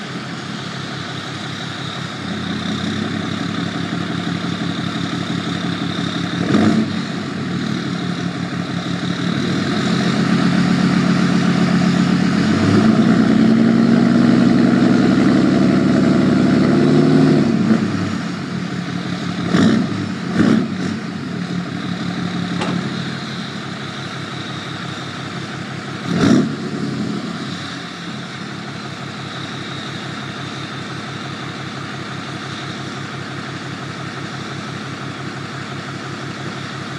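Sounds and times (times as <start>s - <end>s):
diesel engine idling and revving: 0.0s - 36.9s
engine throttle blips: 0.0s - 36.9s.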